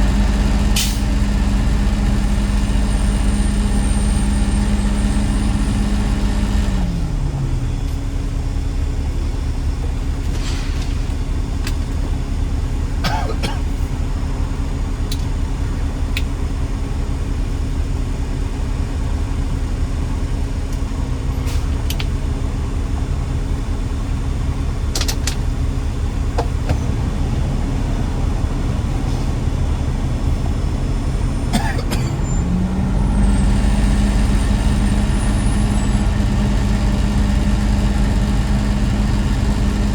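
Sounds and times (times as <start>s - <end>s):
heavy truck engine running: 0.0s - 39.9s.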